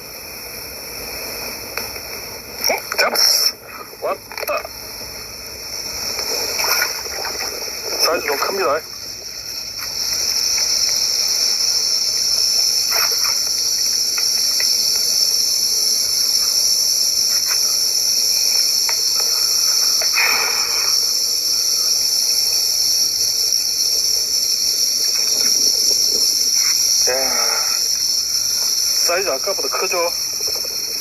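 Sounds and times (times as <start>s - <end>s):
insects shrilling: 0.0s - 31.0s.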